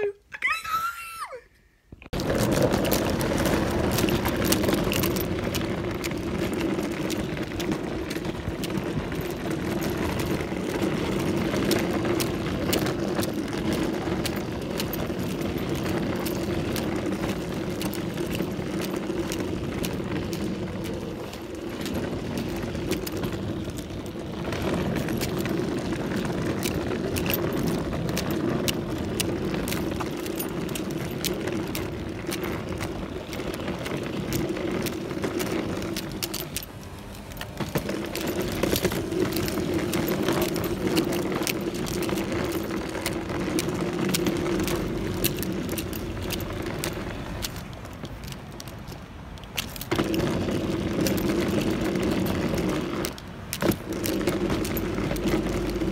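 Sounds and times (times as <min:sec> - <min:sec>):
wheels clicking over bumps: 0:01.9 - 0:55.9
suitcase wheels rolling: 0:02.0 - 0:55.9.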